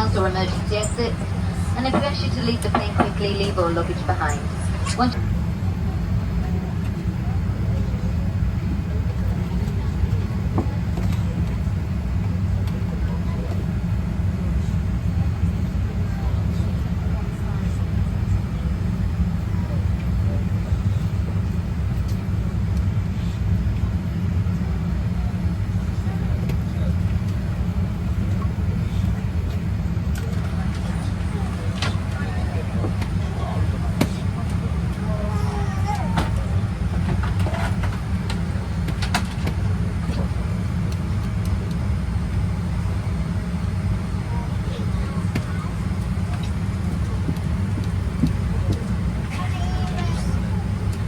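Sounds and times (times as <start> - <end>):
cabin ventilation rumble: 0.0 - 51.0.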